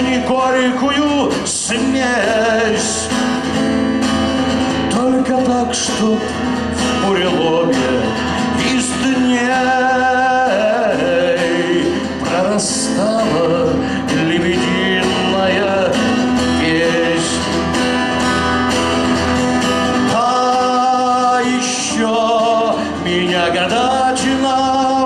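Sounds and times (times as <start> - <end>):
guitar accompaniment: 0.0 - 25.0
person singing slow song: 4.8 - 25.0.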